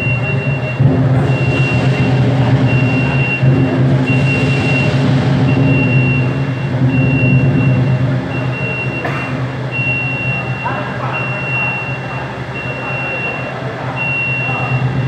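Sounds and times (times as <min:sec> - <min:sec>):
forklift humming: 0:00.0 - 0:15.0
forklift warning beeper: 0:00.0 - 0:15.0.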